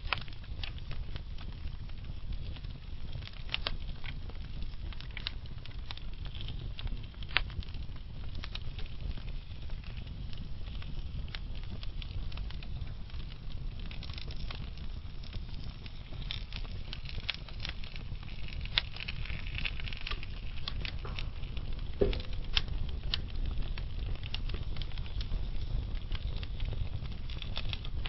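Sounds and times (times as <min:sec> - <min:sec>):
burning logs crackling and popping: 0:00.0 - 0:28.0
fire low rumble: 0:00.0 - 0:28.0.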